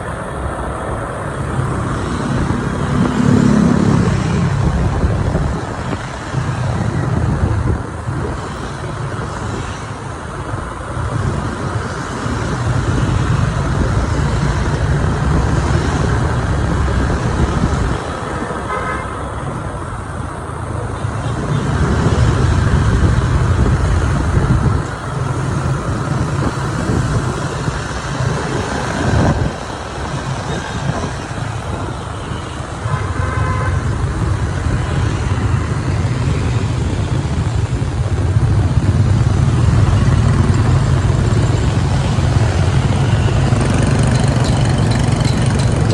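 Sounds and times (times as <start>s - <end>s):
motorbike engine and road rumble: 0.0s - 45.9s.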